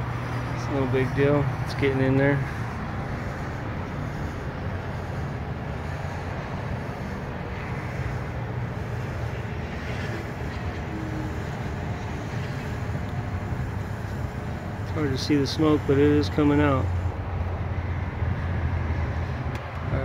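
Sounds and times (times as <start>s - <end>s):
air pump humming: 0.0s - 20.0s.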